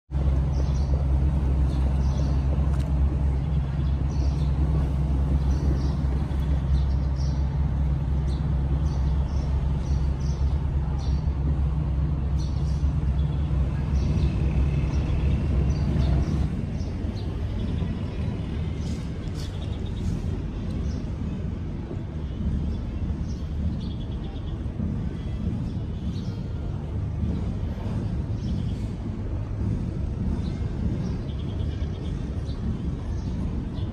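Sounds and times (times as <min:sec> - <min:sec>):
vehicle engine idling: 0:00.1 - 0:33.9.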